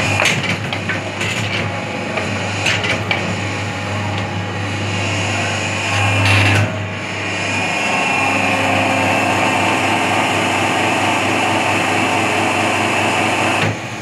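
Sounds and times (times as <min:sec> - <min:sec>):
noisy machine whine: 0:00.0 - 0:14.0
pump motor low hum: 0:00.0 - 0:14.0.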